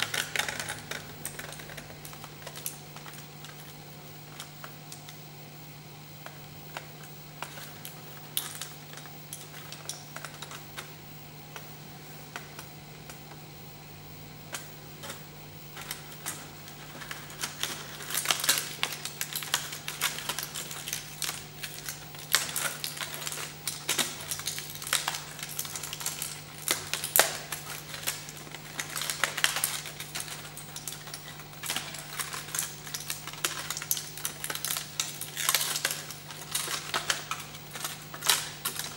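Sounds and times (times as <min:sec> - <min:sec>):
aluminium foil crinkling: 0:00.0 - 0:05.3, 0:06.2 - 0:13.4, 0:14.4 - 0:38.9
steady low hum: 0:00.0 - 0:38.9.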